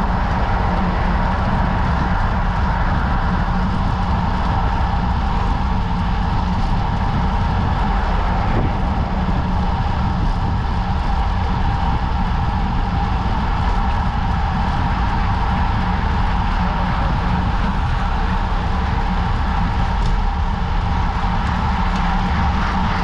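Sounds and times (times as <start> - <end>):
bike road noise on asphalt: 0.0 - 23.0
wind rush over microphone: 0.0 - 23.0.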